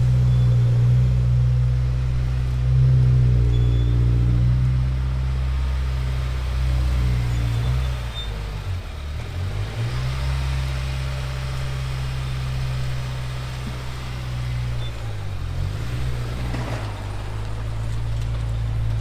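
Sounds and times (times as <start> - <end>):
car engine low drone: 0.0 - 19.0.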